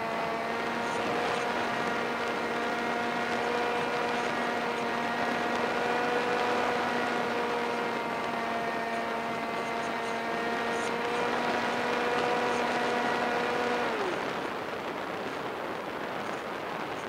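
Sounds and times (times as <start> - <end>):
model plane electric motor whine: 0.0 - 15.1.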